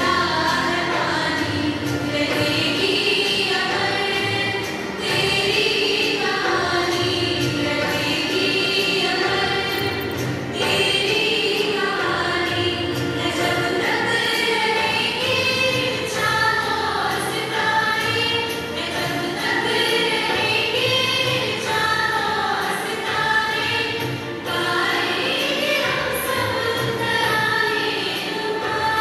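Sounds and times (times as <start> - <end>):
girls choir singing: 0.0 - 29.0.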